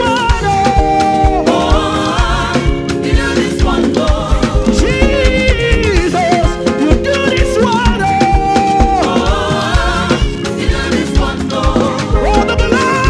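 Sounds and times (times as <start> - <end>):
gospel band playing: 0.0 - 13.0
keyboard chords: 0.0 - 13.0
person singing: 0.0 - 13.0
steady drum beat: 0.0 - 13.0.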